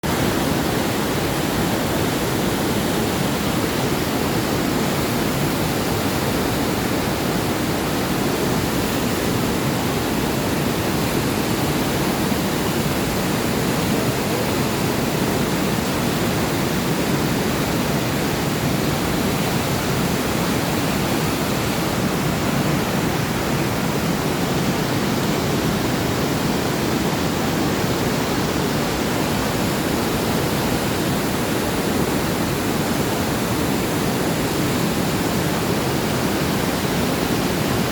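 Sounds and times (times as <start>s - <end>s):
water rushing over rocks: 0.0s - 37.9s.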